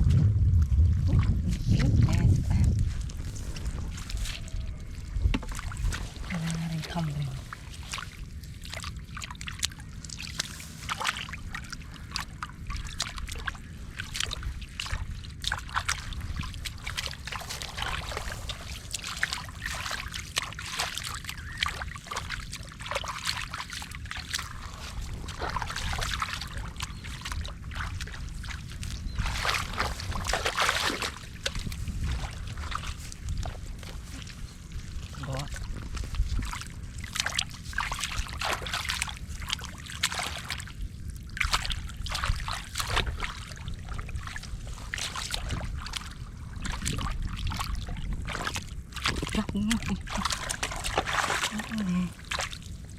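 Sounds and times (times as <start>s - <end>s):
low rumble: 0.0s - 22.9s, 23.9s - 52.9s
muddy water splashing: 0.0s - 52.9s.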